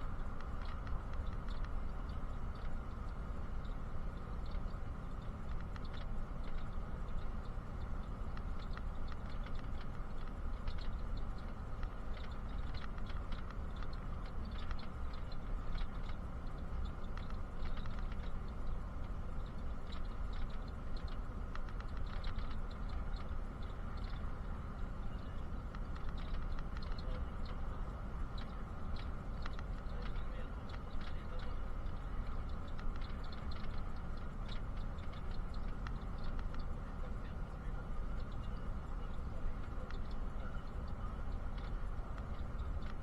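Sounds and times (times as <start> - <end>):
bus engine and road rumble: 0.0 - 43.0
light clicks and rattles: 0.0 - 43.0.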